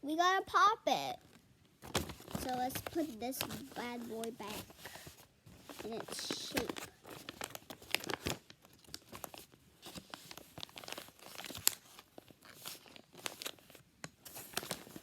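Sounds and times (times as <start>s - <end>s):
plastic and paper crinkling: 1.2s - 15.0s.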